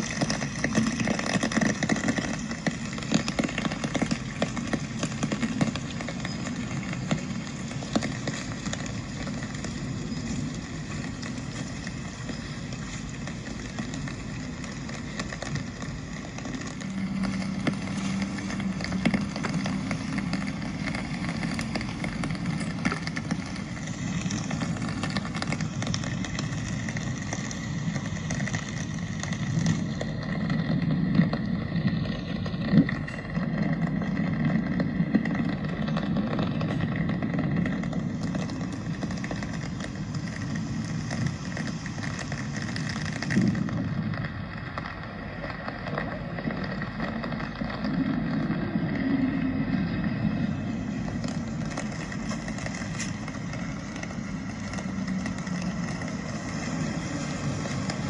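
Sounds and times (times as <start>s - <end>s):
passing traffic: 0.0s - 58.0s
rain: 0.0s - 58.0s.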